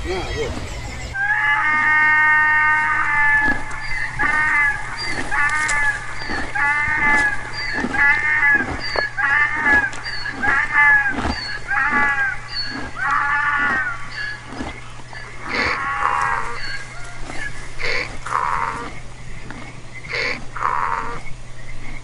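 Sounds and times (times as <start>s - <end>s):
donkey braying: 0.0s - 21.2s.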